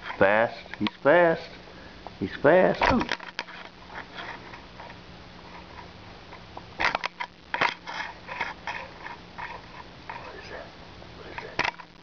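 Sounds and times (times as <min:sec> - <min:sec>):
faint clicks and rustles: 0:00.0 - 0:12.0.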